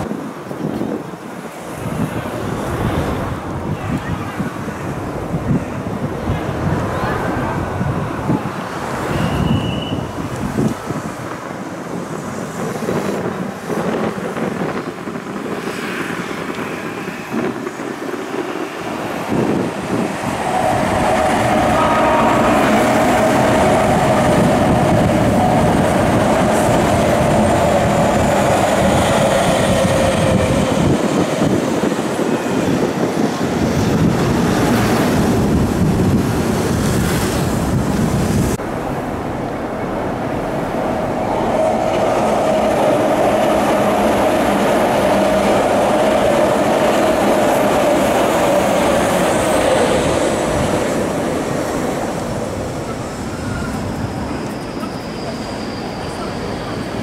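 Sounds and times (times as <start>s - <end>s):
electric trains rolling past: 0.0s - 57.0s
mid-pitched train whine: 1.5s - 57.0s.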